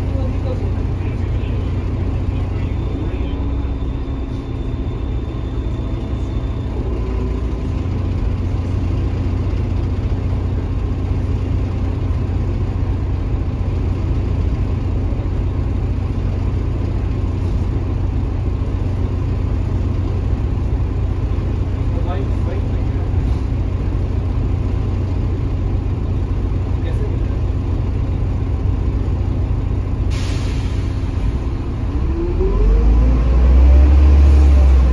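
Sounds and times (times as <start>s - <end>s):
bus diesel engine rumbling: 0.0s - 34.9s.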